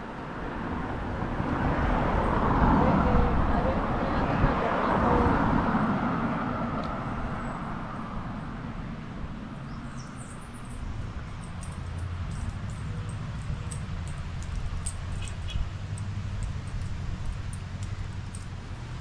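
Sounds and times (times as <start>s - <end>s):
vehicle passing by: 0.3s - 19.0s.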